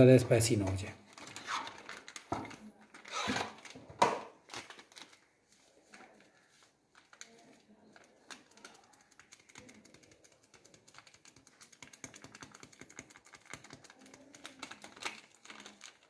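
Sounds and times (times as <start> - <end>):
foil packet crinkling: 0.4 - 16.0
small clicks and rustles: 0.6 - 16.0.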